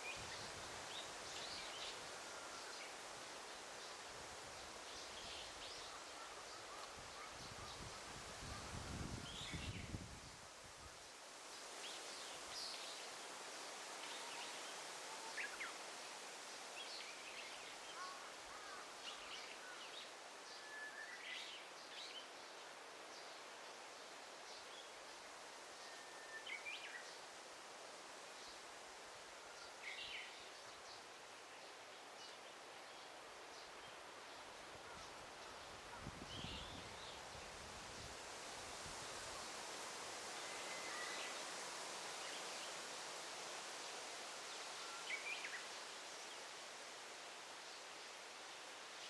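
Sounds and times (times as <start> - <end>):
soft forest hiss: 0.0 - 49.0.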